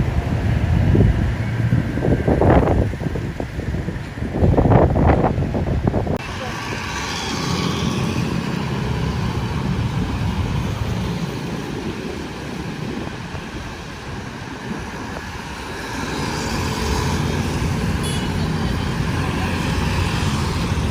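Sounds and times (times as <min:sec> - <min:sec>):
heavy road traffic: 0:00.0 - 0:20.9.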